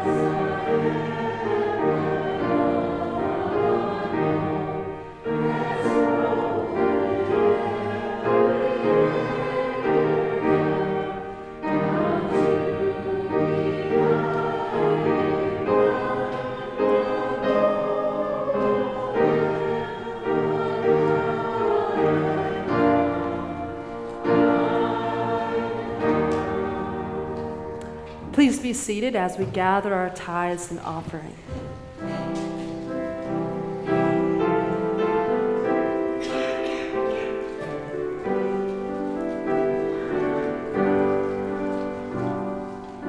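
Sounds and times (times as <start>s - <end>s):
group singing a hymn: 0.0s - 28.3s, 31.0s - 43.0s.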